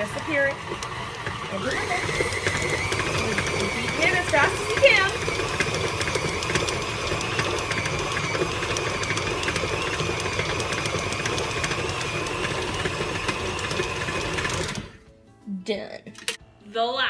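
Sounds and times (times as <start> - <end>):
beater ticking through dough: 0.0 - 14.9
stand mixer motor whine: 0.0 - 15.0.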